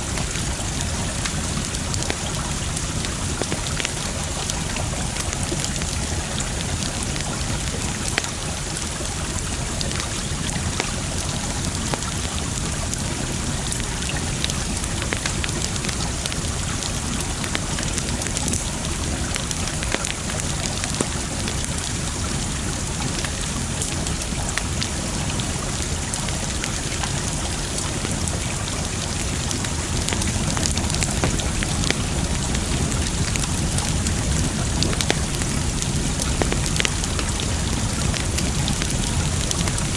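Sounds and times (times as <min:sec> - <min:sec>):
campfire crackling and popping: 0:00.0 - 0:39.9
rushing water: 0:00.0 - 0:39.9.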